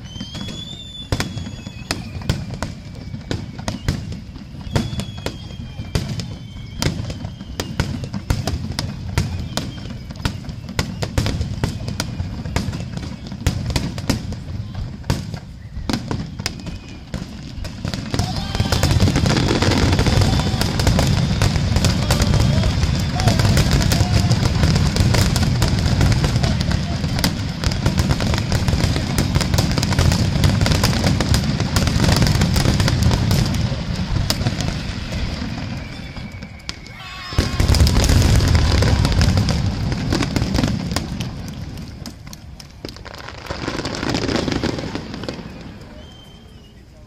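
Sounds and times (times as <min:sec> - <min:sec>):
fireworks bursting: 0:00.0 - 0:47.0.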